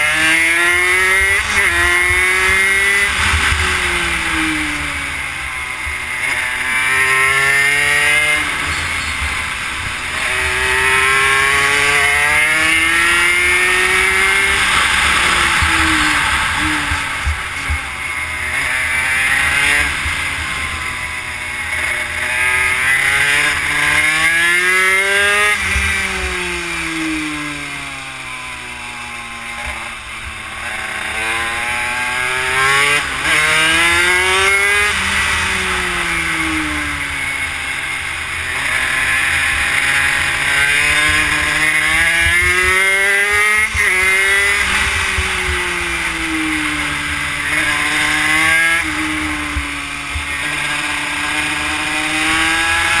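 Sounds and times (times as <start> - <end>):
two-stroke minibike engine accelerating: 0.0 - 53.0.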